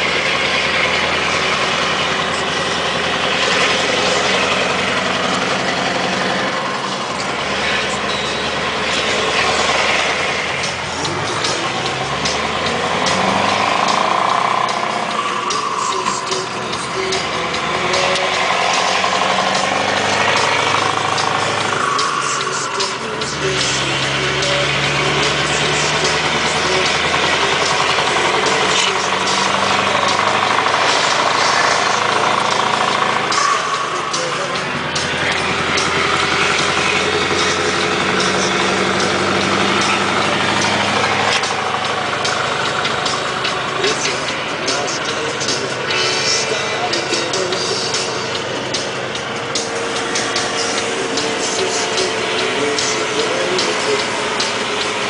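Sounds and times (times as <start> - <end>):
diesel truck engine from cab: 0.0 - 55.0.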